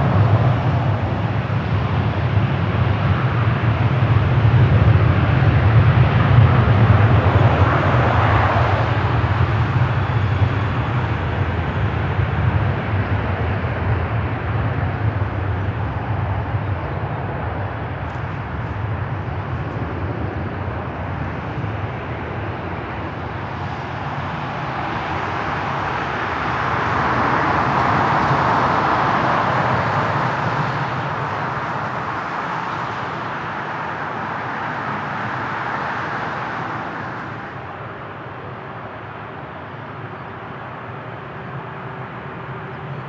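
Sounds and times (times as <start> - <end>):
jet engines roaring: 0.0 - 43.0.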